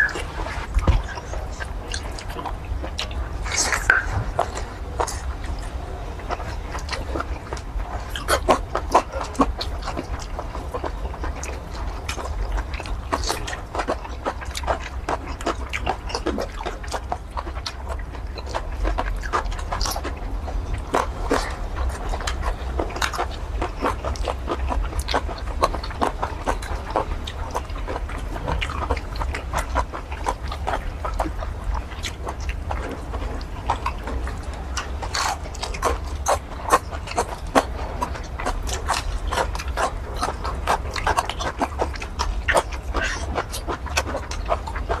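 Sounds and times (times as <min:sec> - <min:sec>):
steady low hum: 0:00.0 - 0:45.0
wet chewing and lip-smacking: 0:00.0 - 0:45.0.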